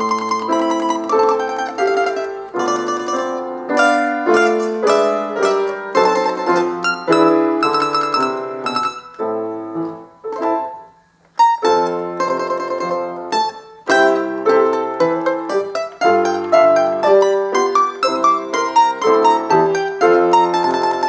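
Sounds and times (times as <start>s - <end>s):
piano accompaniment: 0.0s - 21.0s
plucked string folk tune: 0.0s - 21.0s.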